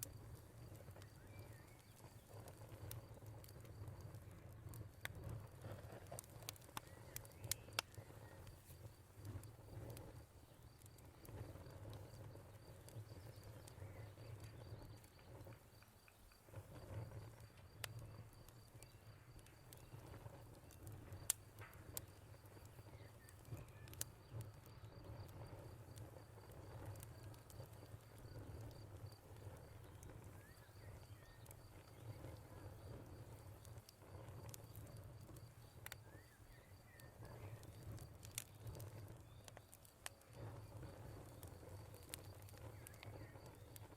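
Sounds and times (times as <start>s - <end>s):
cricket chirping: 0.0s - 43.9s
wood fire crackling and popping: 0.0s - 43.9s.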